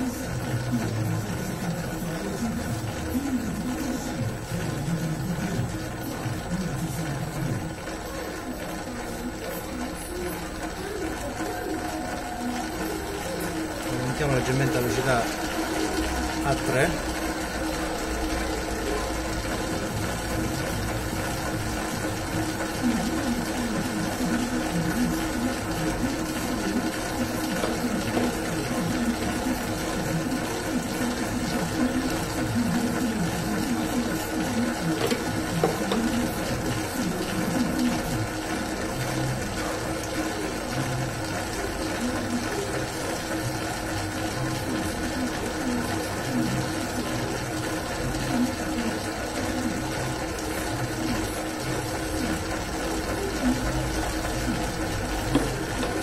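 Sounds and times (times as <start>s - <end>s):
dough churning: 0.0s - 56.0s
dough mixer motor humming: 0.0s - 56.0s.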